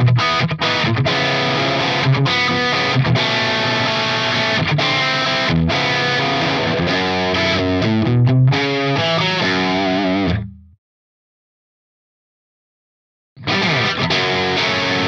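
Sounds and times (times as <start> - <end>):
distorted electric guitar: 0.0 - 10.8, 13.4 - 15.0.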